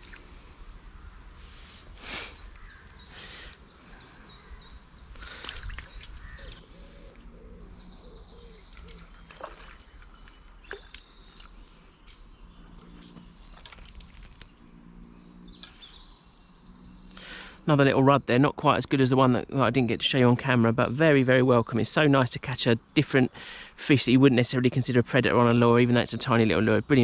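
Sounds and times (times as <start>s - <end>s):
birds singing: 0.0s - 27.0s.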